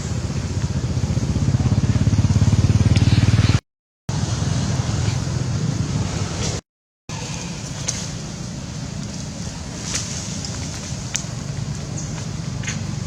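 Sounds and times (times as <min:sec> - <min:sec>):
engine running with low pulse: 0:00.0 - 0:13.0.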